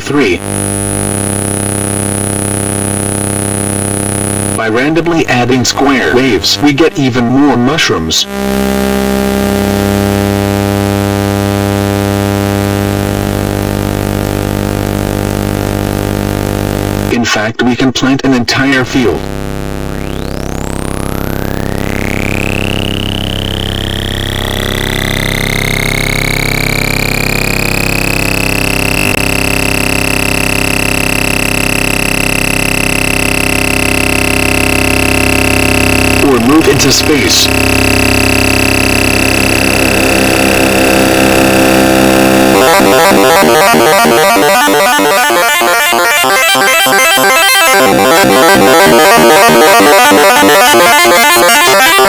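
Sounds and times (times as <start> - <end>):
low synthesized buzzing tone: 0.0 - 4.6, 8.2 - 17.1, 19.2 - 51.8.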